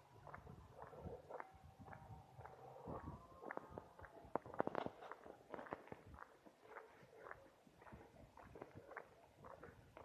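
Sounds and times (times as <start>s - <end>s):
faint crunching footsteps: 0.0s - 10.0s.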